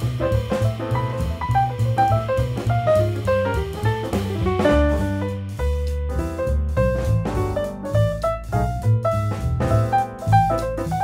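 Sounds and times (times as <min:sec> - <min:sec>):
instrumental jazz music: 0:00.0 - 0:11.0.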